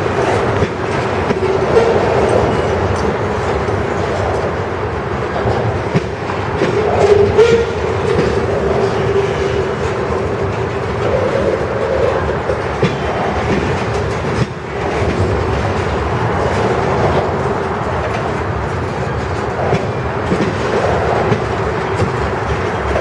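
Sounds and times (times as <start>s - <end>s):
freight cars rumbling: 0.0s - 23.0s
wheels clacking over rail joints: 0.0s - 23.0s.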